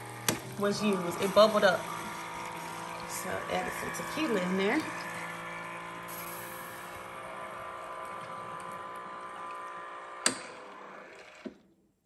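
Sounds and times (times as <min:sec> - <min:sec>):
cocktail maker whirring: 0:00.0 - 0:11.7.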